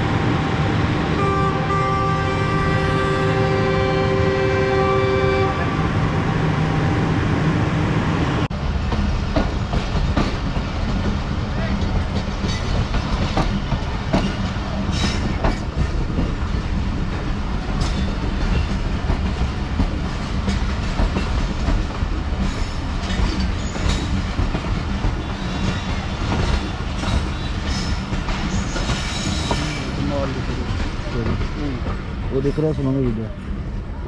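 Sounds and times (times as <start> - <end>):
train coaches rumbling past: 0.0 - 34.0.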